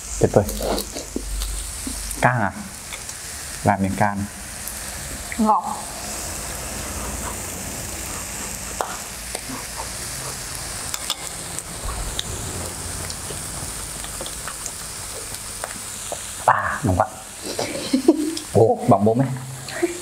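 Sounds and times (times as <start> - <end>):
meat sizzling on a grill plate: 0.0 - 20.0.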